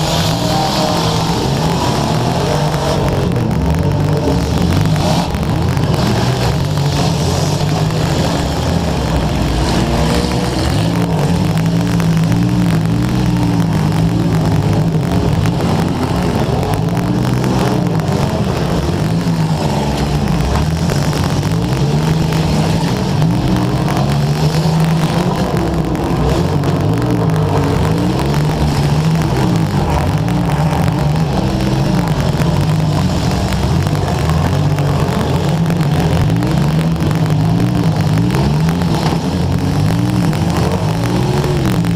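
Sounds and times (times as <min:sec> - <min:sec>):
car engines revving hard: 0:00.0 - 0:41.9
static crackle: 0:00.0 - 0:41.9.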